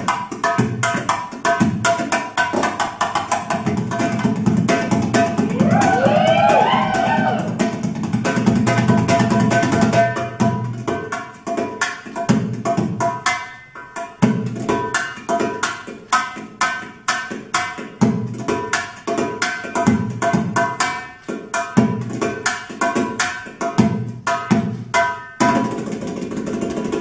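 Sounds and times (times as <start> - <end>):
bellydance music: 0.0 - 27.0
hand drum rhythm: 0.0 - 27.0.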